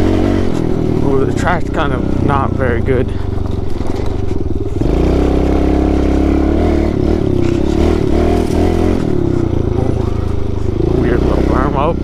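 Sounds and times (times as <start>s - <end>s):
small motorbike engine revving: 0.0s - 12.0s.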